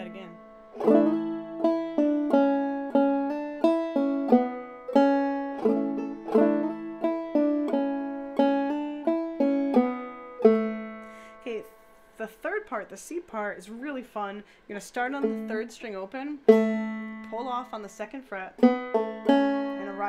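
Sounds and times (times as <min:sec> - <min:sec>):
banjo picking slow phrase: 0:00.0 - 0:12.2, 0:15.1 - 0:17.8, 0:18.6 - 0:20.0.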